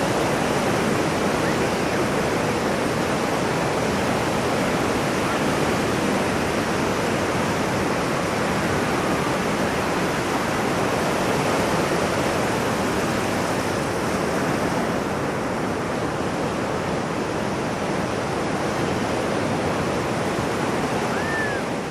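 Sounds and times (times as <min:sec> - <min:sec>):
ocean surf rushing: 0:00.0 - 0:21.9.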